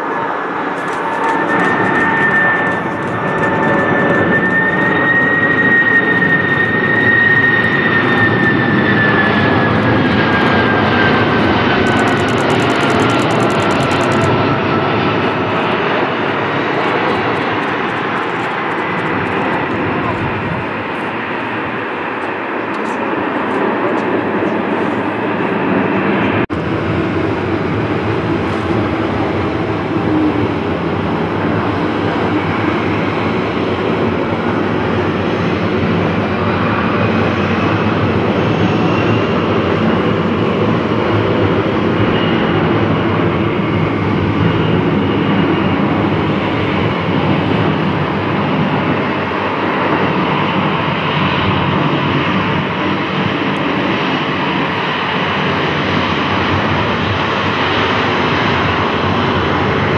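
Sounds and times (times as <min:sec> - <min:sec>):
faint engine whine: 0:00.0 - 0:50.2
jet engines roaring: 0:00.0 - 0:59.9.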